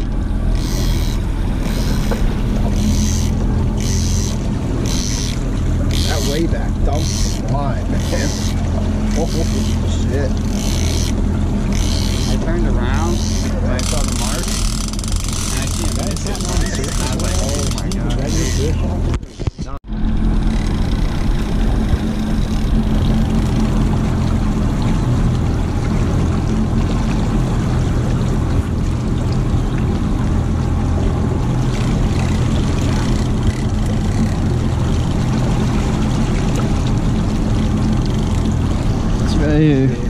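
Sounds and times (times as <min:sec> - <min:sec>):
boat wake churning: 0:00.0 - 0:40.0
outboard motors humming: 0:00.0 - 0:40.0.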